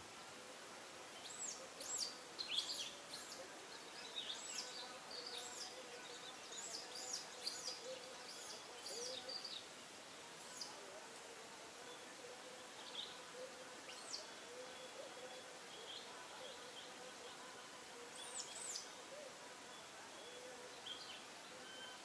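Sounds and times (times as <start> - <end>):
small birds chirping: 1.1 - 11.1, 11.7 - 22.0.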